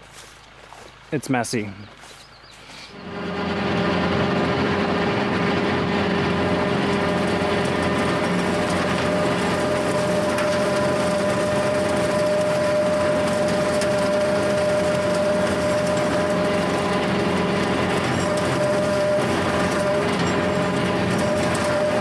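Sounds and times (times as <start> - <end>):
rotary cutter mowing grass: 2.8 - 22.0
tractor engine drone: 2.9 - 22.0.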